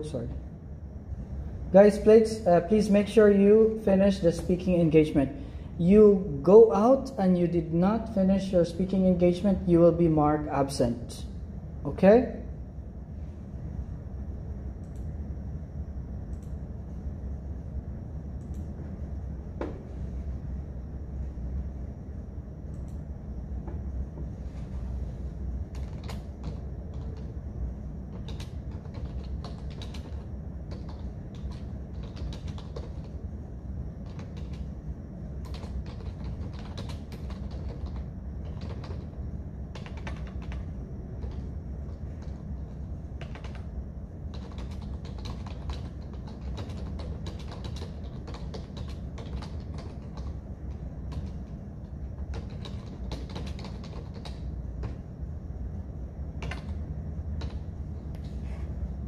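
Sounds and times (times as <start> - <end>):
low hum: 0.0 - 47.0, 53.7 - 59.0.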